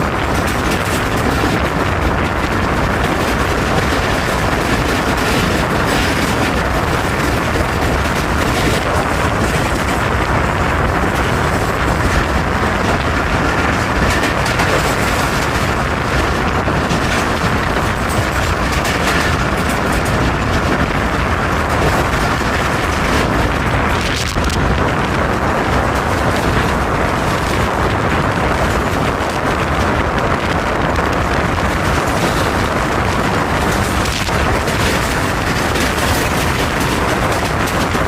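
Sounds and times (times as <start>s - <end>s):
train rumbling and rattling past: 0.0s - 38.0s.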